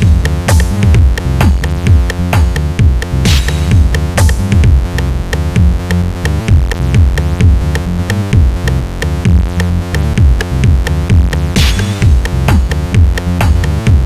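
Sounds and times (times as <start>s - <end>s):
electronic music with steady beat: 0.0s - 14.0s.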